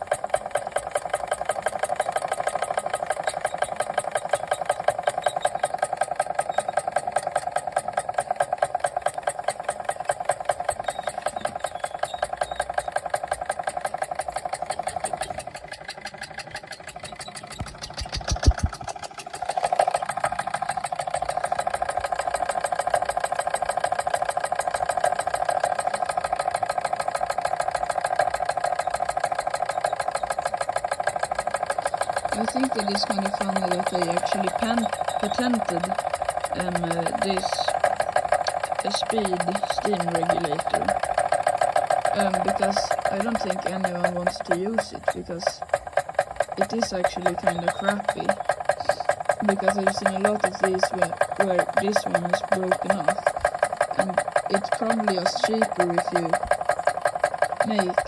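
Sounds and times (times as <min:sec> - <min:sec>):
model steam engine running fast: 0:00.0 - 0:58.0.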